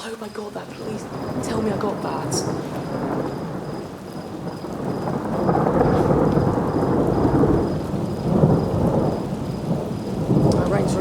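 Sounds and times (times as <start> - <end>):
rain hissing: 0.0 - 11.0
thunder rumbling: 0.0 - 11.0.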